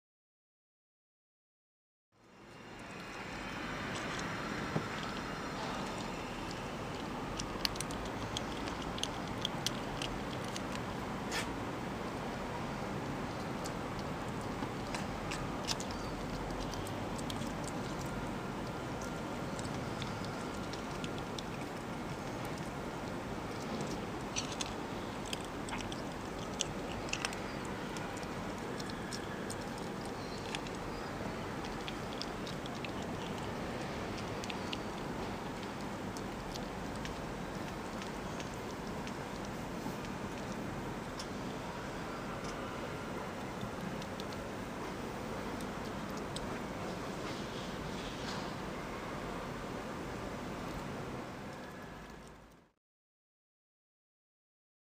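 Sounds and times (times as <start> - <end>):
ferret crunching kibble: 2.8 - 47.4.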